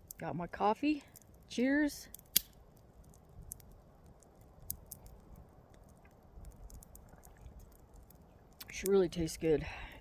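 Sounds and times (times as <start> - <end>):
low rumble of wind: 0.0 - 10.0
small ticks and crackles: 0.0 - 10.0.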